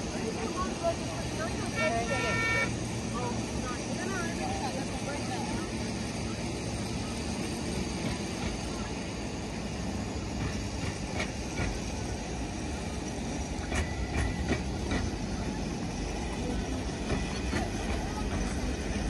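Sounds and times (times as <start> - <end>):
tram rolling on steel rails: 0.0 - 19.0.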